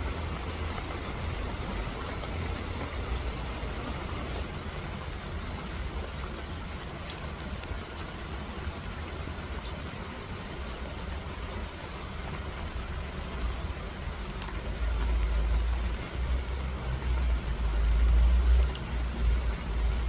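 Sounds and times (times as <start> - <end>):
rain hissing: 0.0 - 20.0.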